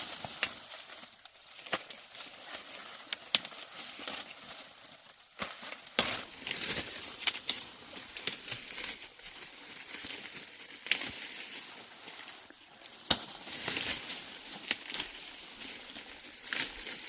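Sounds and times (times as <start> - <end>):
dry material crinkling and rustling: 0.0 - 17.0.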